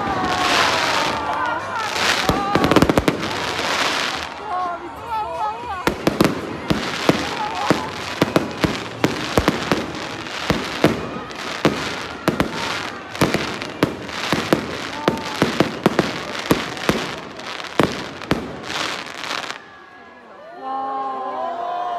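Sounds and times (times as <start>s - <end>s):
fireworks bangs: 0.0s - 19.8s
crackling hiss of fireworks: 0.0s - 20.0s.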